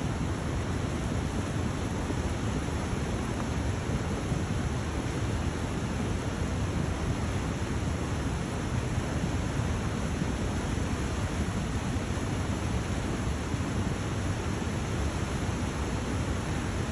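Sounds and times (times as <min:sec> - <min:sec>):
rushing churning floodwater: 0:00.0 - 0:16.9.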